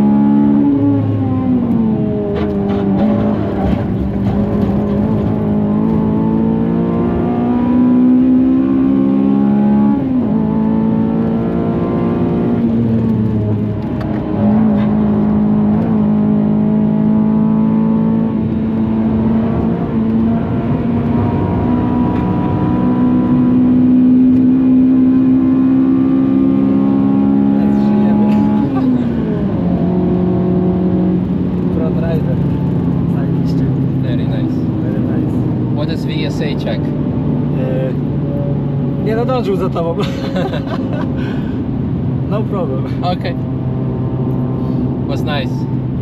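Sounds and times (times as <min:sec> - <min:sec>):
car engine revving high: 0:00.0 - 0:46.0.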